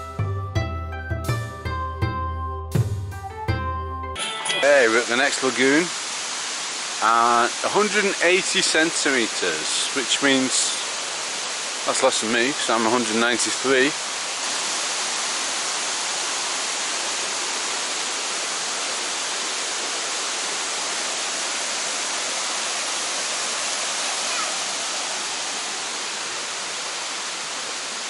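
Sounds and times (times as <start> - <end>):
waterfall pouring over rocks: 4.5 - 28.0.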